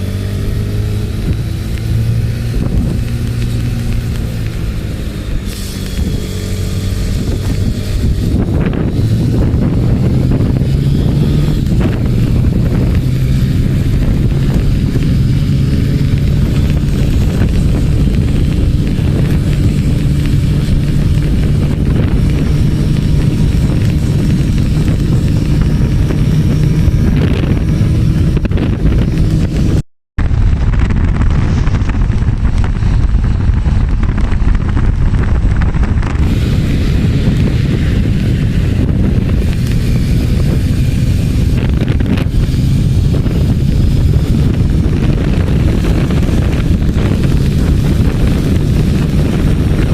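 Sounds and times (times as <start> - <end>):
motorcycle engine at speed: 0.0 - 49.9
wind rushing over microphone: 0.0 - 49.9.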